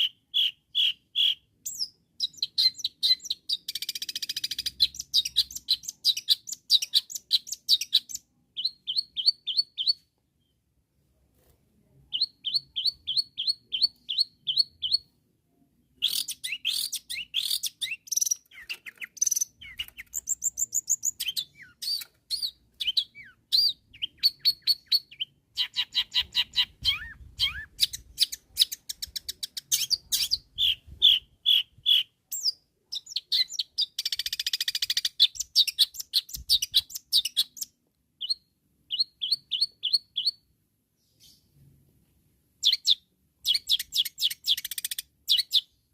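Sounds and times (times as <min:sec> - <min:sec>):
bird song with chattering: 0:00.0 - 0:10.6, 0:12.1 - 0:15.1, 0:15.9 - 0:41.6, 0:42.6 - 0:45.9.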